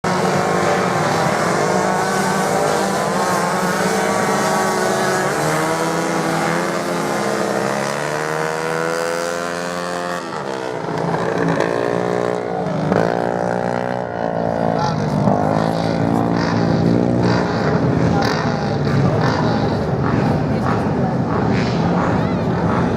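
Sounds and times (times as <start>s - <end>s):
racing motorcycle engines revving: 0.0s - 22.9s.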